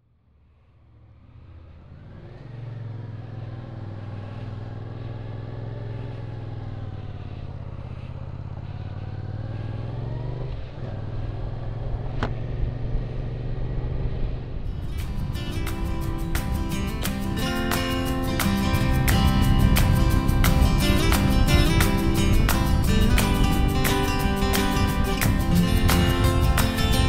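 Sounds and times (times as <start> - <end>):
motorcycle engine riding: 0.6 - 27.0.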